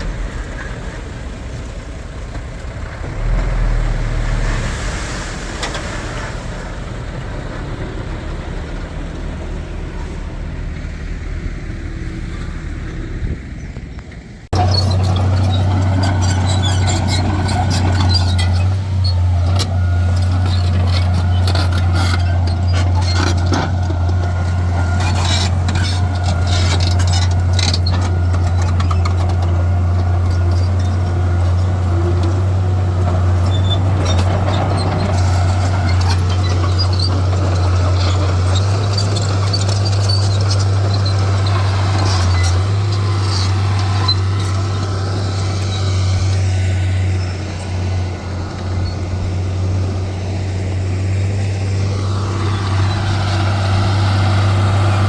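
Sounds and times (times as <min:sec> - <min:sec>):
heavy machinery engine drone: 0:00.0 - 0:55.0.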